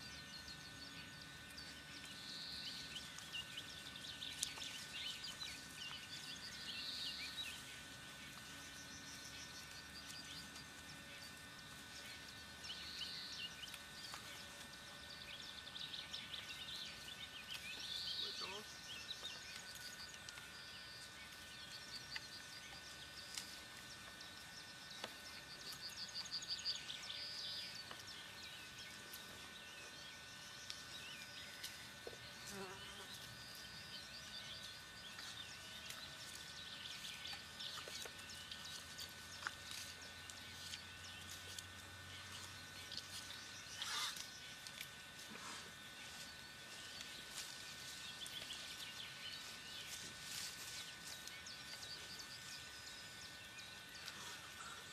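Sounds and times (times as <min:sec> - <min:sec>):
birds chirping: 0:00.0 - 0:54.9
high insect buzz: 0:00.0 - 0:54.9.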